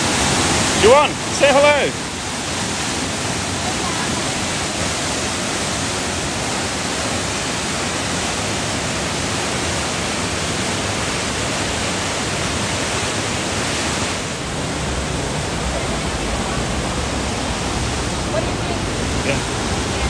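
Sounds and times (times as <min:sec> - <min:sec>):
fast-flowing water rushing: 0:00.0 - 0:20.0.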